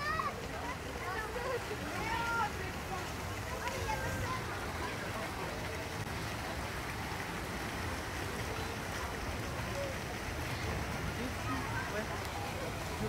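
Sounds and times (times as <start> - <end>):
water churning in a pool: 0.0 - 13.0
water rushing down a chute: 0.0 - 13.0.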